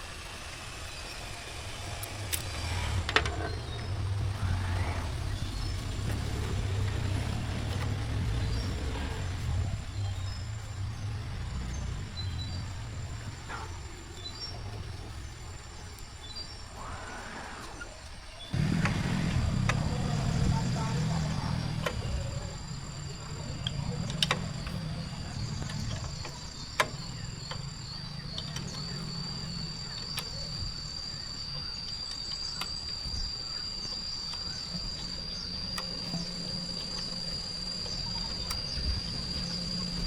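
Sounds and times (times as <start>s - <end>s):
insects trilling: 0.0s - 40.0s
low steady hum: 0.0s - 40.0s
sharp clicks: 0.9s - 15.0s, 17.6s - 40.0s.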